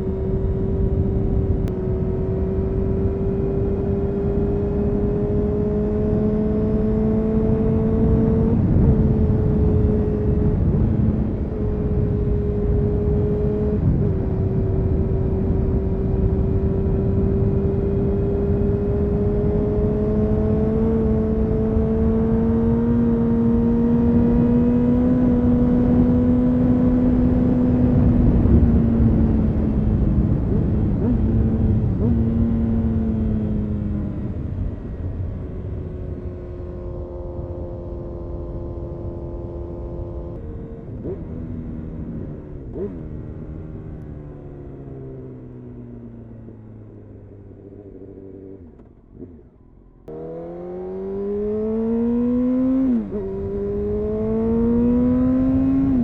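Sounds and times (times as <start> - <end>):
motorcycle engine riding: 0.0 - 56.0
wind and road rumble: 0.0 - 56.0.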